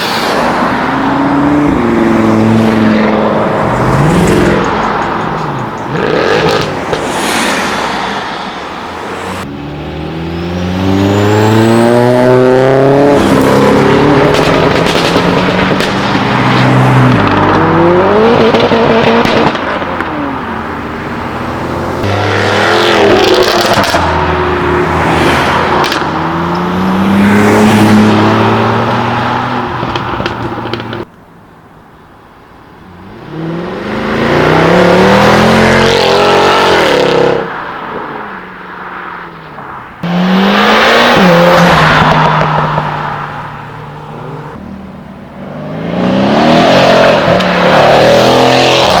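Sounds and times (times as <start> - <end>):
cars accelerating with loud exhaust: 0.0 - 31.0, 32.9 - 38.0, 40.0 - 49.0.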